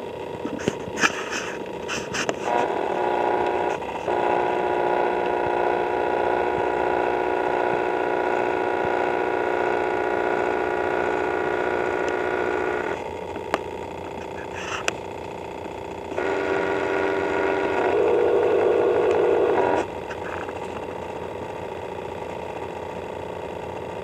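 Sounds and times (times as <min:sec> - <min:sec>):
motor running with steady hum: 0:00.0 - 0:24.0.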